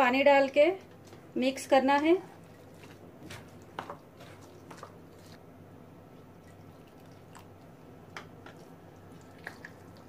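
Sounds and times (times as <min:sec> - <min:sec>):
batter squishing by hand: 0:00.9 - 0:10.0.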